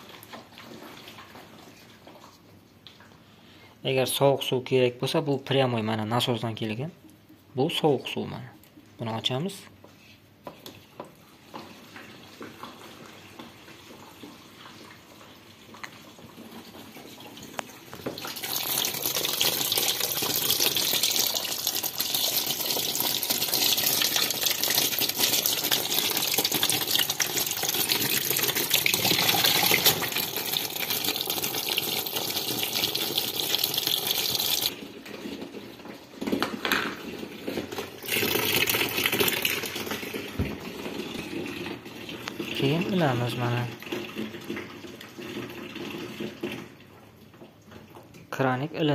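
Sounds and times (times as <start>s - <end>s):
tap water pouring into tub: 0.0s - 3.2s, 10.6s - 48.2s.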